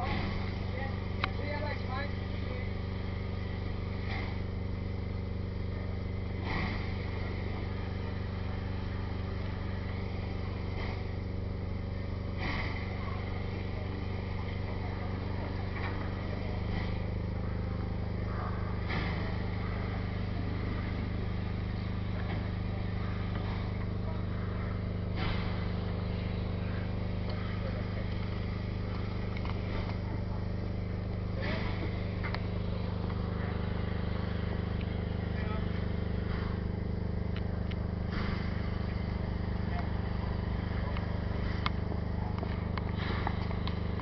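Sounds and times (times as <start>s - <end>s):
steam locomotive drone: 0.0s - 44.0s.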